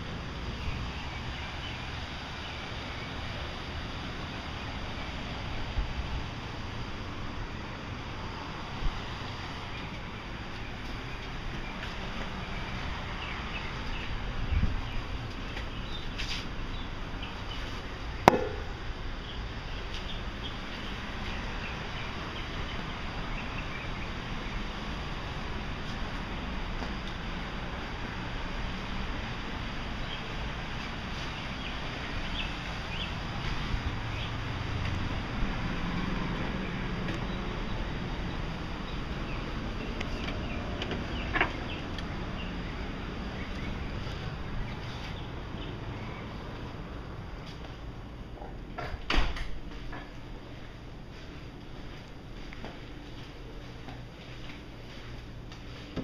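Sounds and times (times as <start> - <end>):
faint birds chirping: 0.0 - 48.6
outdoor background hiss: 0.0 - 56.0
road traffic noise: 0.0 - 56.0.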